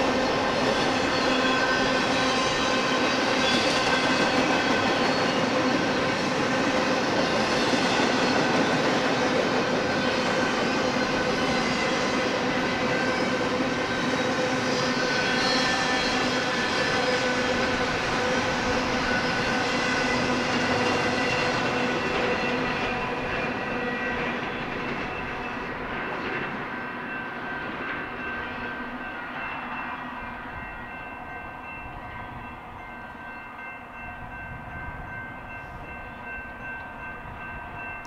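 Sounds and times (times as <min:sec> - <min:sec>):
freight train rumbling on rails: 0:00.0 - 0:38.0.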